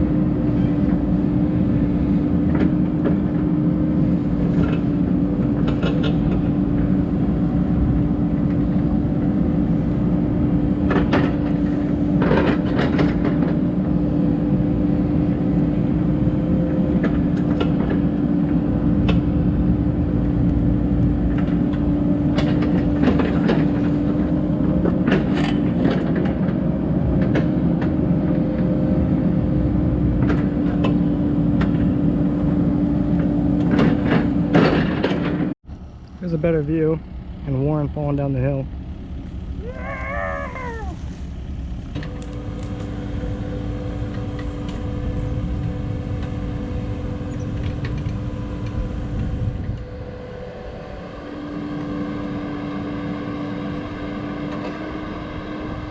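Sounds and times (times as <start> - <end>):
diesel engine humming: 0.0 - 34.6, 35.4 - 55.9.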